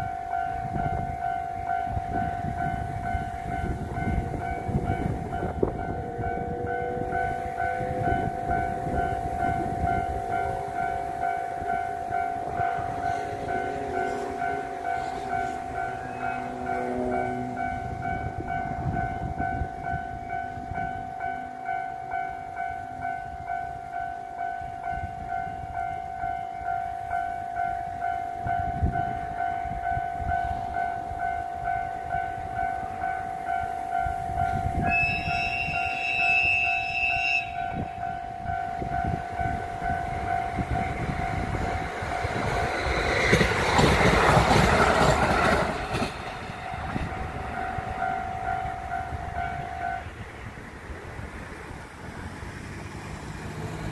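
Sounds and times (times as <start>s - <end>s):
level crossing bell ringing: 0.0s - 42.3s, 46.9s - 50.1s
train horn: 0.0s - 42.5s, 43.4s - 50.3s
train passing on rails: 0.0s - 53.9s.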